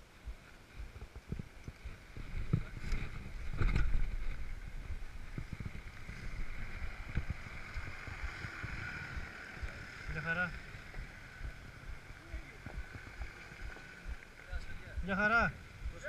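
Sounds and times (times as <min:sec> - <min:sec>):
wind on microphone: 0:00.0 - 0:16.0
car engine running on gravel: 0:01.0 - 0:14.9.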